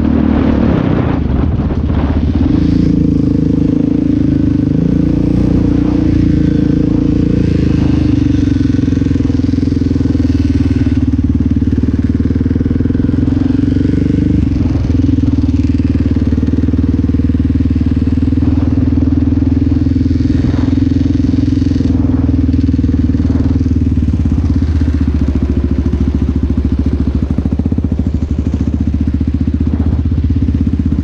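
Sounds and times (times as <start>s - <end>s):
quad engine running: 0.0s - 31.0s.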